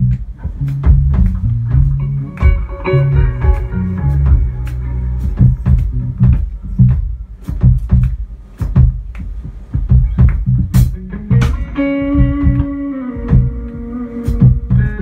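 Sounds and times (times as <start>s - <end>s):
electric guitar: 0.0s - 8.8s, 9.9s - 15.0s
bass guitar: 0.0s - 15.0s
drum hits: 0.2s - 15.0s.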